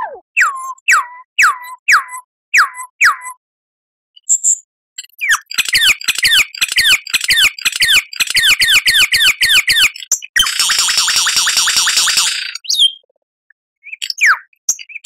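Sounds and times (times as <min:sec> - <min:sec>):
lyrebird whistling song: 0:00.0 - 0:03.4, 0:04.2 - 0:13.0, 0:13.8 - 0:15.0.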